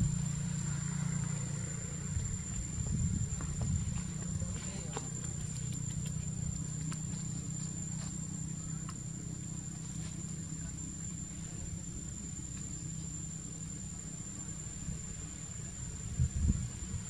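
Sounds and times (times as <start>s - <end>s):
insects droning: 0.0s - 17.0s
low outdoor rumble: 0.0s - 17.0s.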